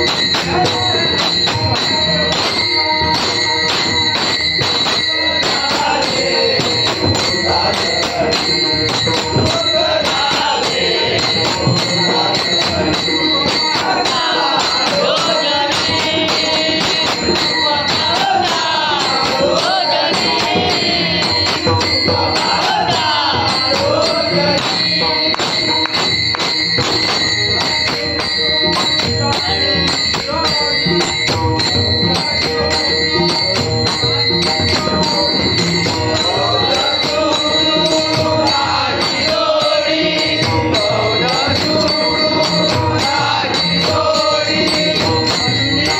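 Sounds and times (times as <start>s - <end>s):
hand cymbals clashing: 0.0s - 45.9s
hand drums: 0.0s - 45.9s
men singing: 0.0s - 45.9s.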